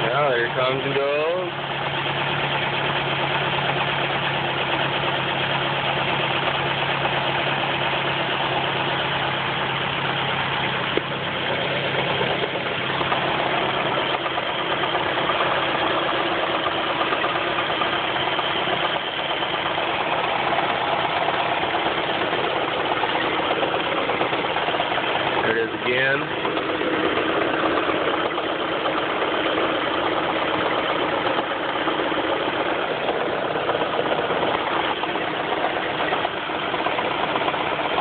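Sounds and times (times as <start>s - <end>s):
car engine idling: 0.0s - 38.0s
engine knocking: 0.0s - 38.0s.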